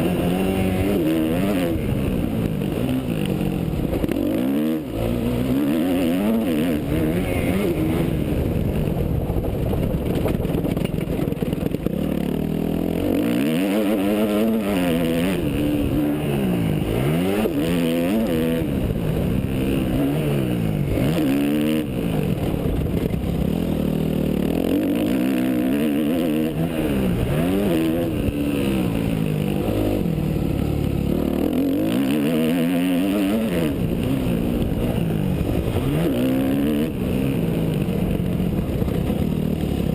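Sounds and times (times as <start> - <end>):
motocross bike engine revving: 0.0 - 8.8, 11.5 - 39.9.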